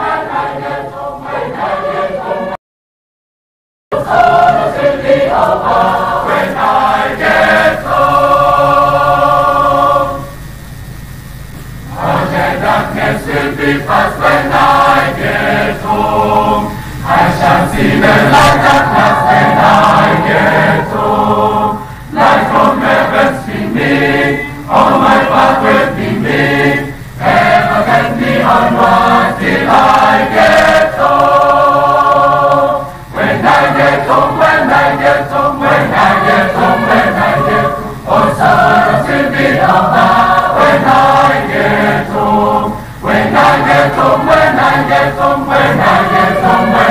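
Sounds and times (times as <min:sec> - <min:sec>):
choir breaths: 0:00.0 - 0:02.6, 0:04.0 - 0:10.5, 0:11.8 - 0:46.9
choir singing: 0:00.0 - 0:02.6, 0:03.9 - 0:10.5, 0:11.9 - 0:46.9.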